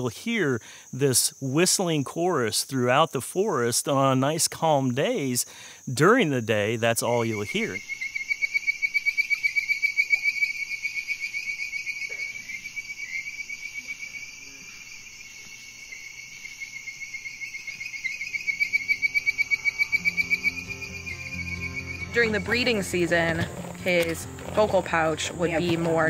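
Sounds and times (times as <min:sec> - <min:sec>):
treefrogs calling: 0:00.0 - 0:26.0.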